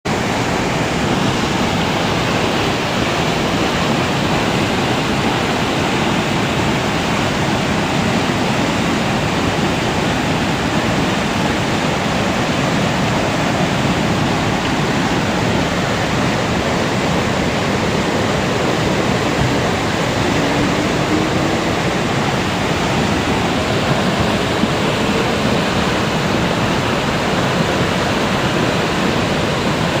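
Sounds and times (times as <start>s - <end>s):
rushing floodwater: 0.0s - 30.0s.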